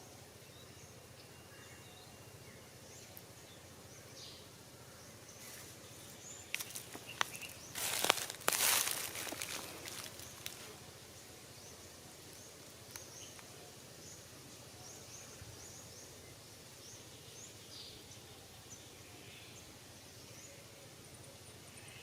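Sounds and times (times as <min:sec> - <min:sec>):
steady hiss: 0:00.0 - 0:22.0
bird chirping: 0:00.4 - 0:22.0.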